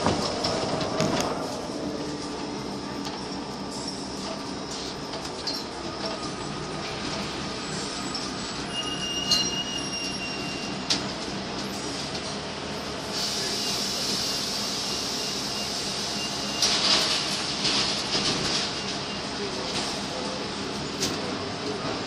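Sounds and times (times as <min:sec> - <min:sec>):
bus cabin rumble and hiss: 0:00.0 - 0:09.5, 0:10.6 - 0:22.0.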